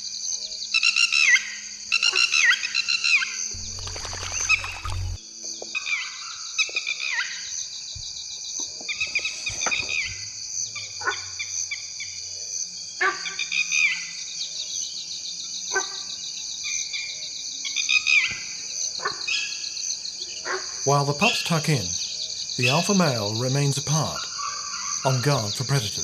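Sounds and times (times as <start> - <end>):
insect buzzing chorus: 0.0 - 26.0.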